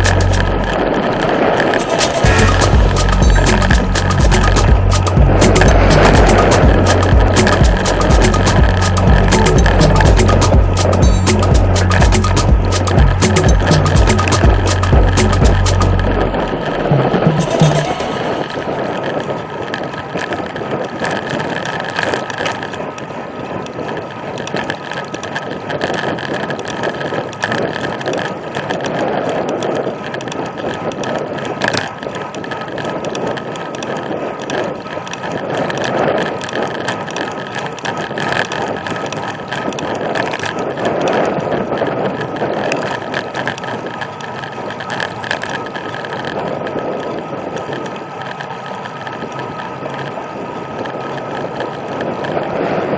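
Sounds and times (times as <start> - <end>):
bicycle freehub clicking: 0.0 - 52.8
wind and road noise: 0.0 - 52.9.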